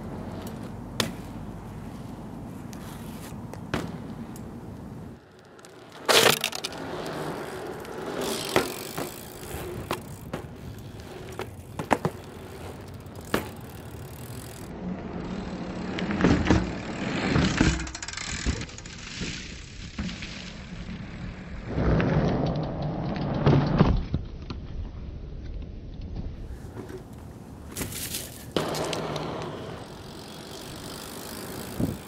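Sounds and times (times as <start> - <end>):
bike rolling on asphalt: 0.0 - 32.0
bike tyres and frame clacking: 0.0 - 32.0.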